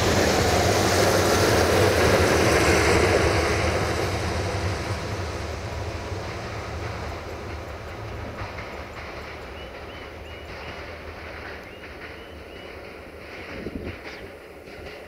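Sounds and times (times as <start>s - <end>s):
train engine and wheel rumble: 0.0s - 15.0s
wheels clattering over rail joints: 0.0s - 15.0s.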